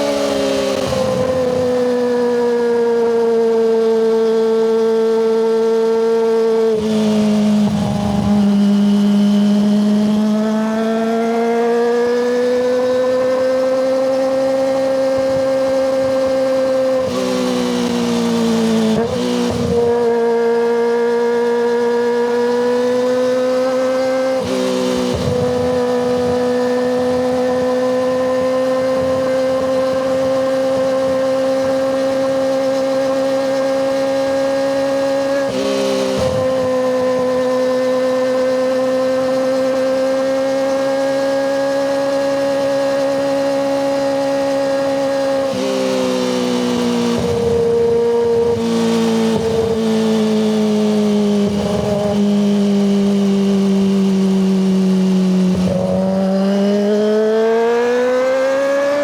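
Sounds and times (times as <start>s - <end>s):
motorcycle engine howling at high revs: 0.0s - 59.0s.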